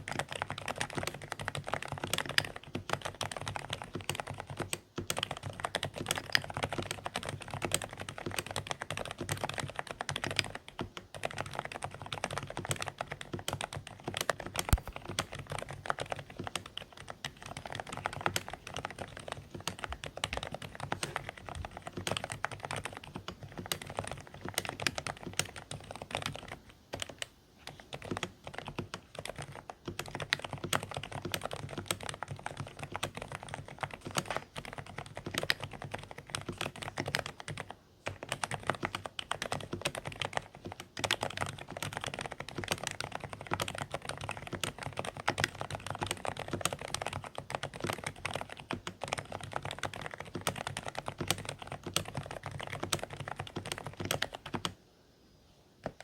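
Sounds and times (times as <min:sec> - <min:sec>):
soft muffled keyboard typing: 0:00.0 - 0:54.8, 0:55.8 - 0:56.0.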